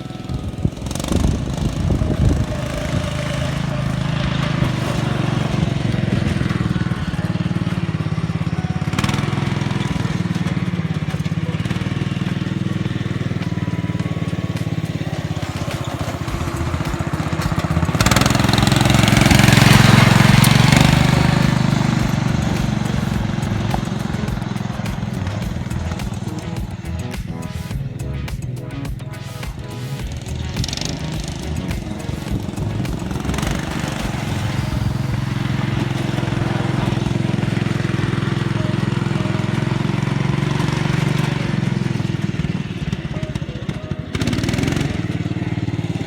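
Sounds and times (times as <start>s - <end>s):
riding mower engine running: 0.0s - 46.0s.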